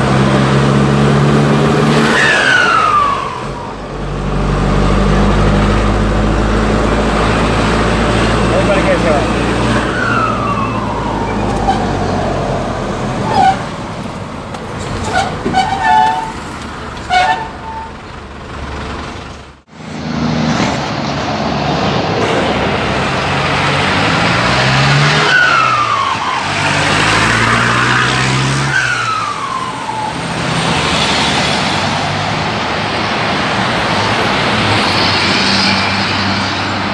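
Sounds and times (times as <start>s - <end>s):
diesel truck engine accelerating: 0.0s - 36.9s.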